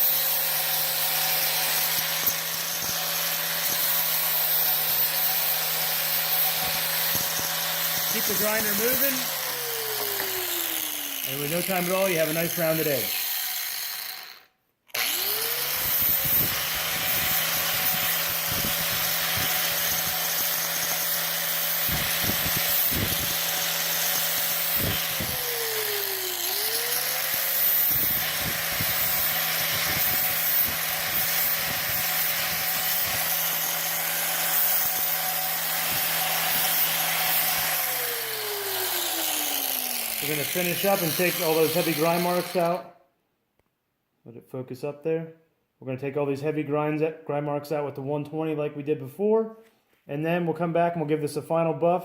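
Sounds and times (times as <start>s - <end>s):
angle grinder grinding steel: 0.0s - 42.8s.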